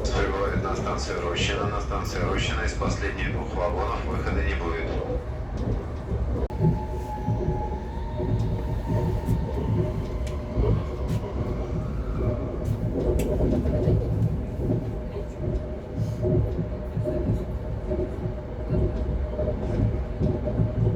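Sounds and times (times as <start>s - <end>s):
train low rumble: 0.0s - 20.9s.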